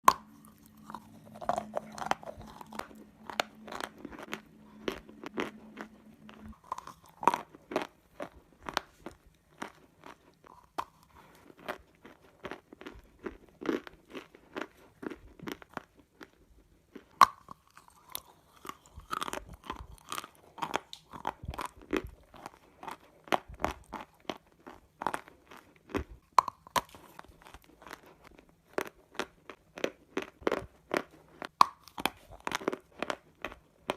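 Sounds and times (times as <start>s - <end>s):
crunchy chewing: 0.0s - 33.9s
faint steady hum: 0.0s - 33.9s.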